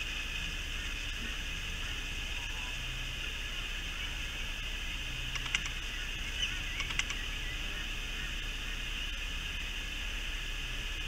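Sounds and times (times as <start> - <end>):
high-pitched outdoor drone: 0.0 - 11.0.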